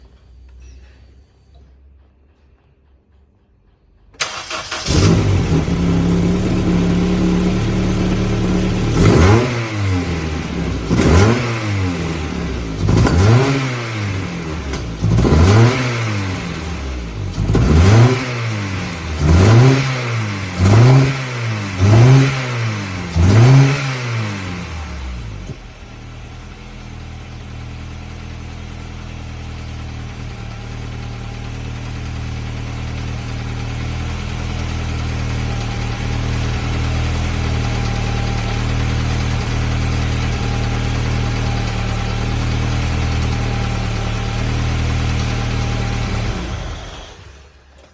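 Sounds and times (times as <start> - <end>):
car engine idling and revving: 4.0 - 47.9.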